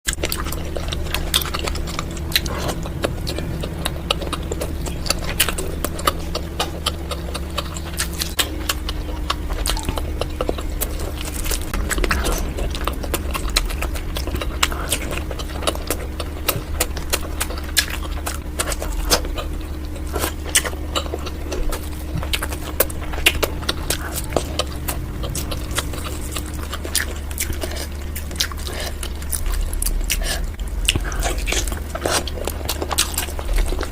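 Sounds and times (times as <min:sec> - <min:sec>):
chewing and mouth smacking: 0:00.1 - 0:33.9
steady low hum: 0:00.1 - 0:33.9.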